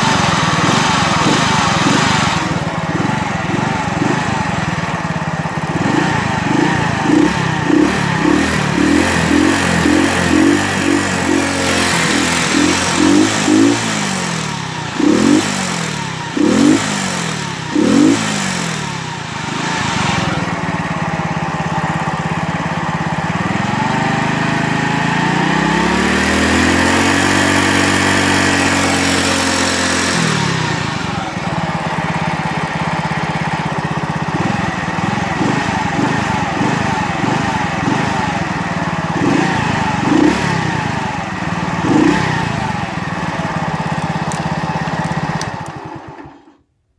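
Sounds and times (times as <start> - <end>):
moped engine revving: 0.0 - 46.7.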